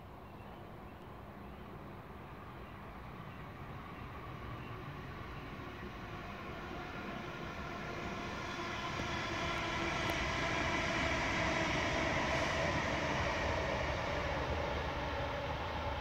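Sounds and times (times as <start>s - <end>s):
aircraft flying over: 1.7s - 16.0s.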